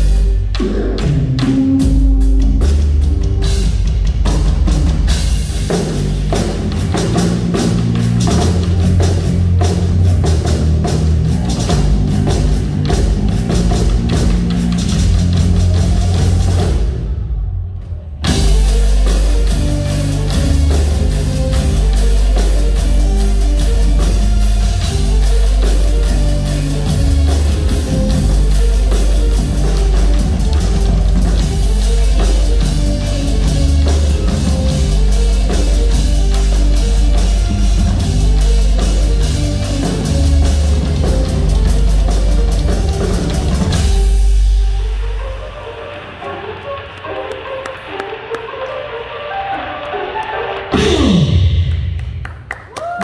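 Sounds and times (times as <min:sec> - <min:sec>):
live rock band playing: 0:00.0 - 0:17.1, 0:18.2 - 0:51.8
drum kit heavy beat: 0:00.0 - 0:46.3, 0:50.6 - 0:53.0.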